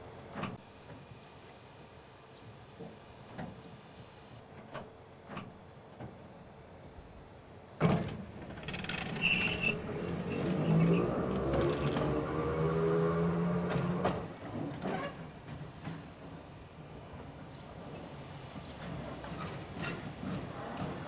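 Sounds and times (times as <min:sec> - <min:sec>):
electric railcar motors whining: 0:00.0 - 0:05.2, 0:06.2 - 0:21.0.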